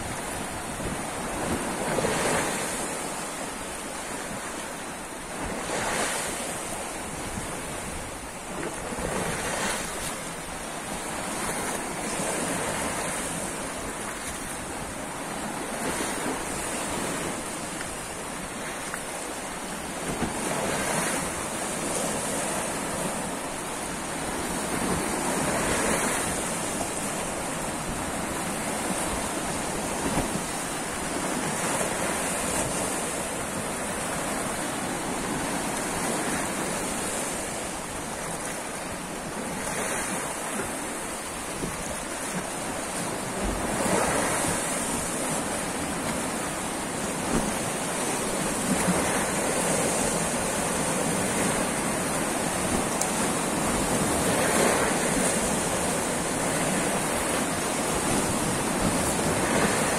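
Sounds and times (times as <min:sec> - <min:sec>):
waves washing against sea wall: 0:00.0 - 0:59.9.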